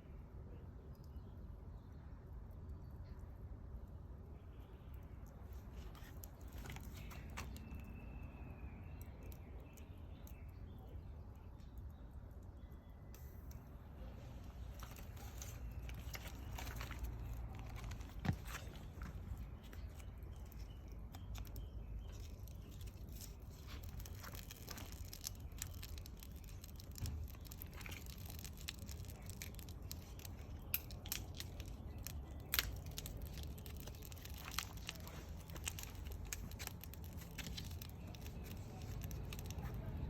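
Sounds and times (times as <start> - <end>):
low background noise: 0.0 - 40.0
bonfire crackling and popping: 5.0 - 39.9.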